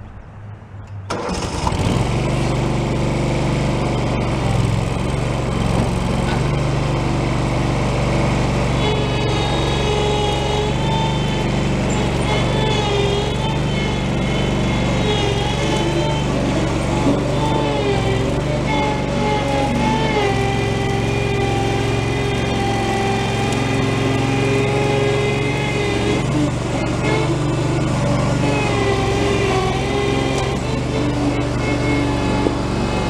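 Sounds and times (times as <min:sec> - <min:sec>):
backhoe engine running: 0:01.1 - 0:33.0.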